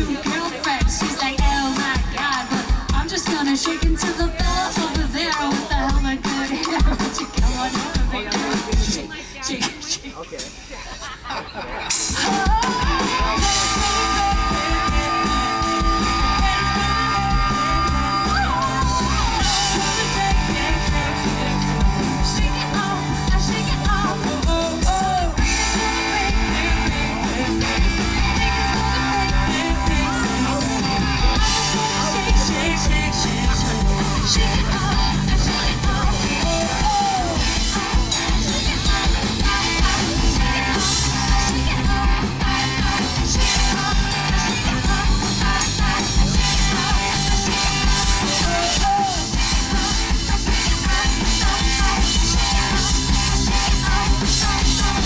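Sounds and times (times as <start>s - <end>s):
live rock band playing: 0.0s - 9.2s, 11.9s - 55.0s
person singing: 0.0s - 10.5s, 11.9s - 55.0s.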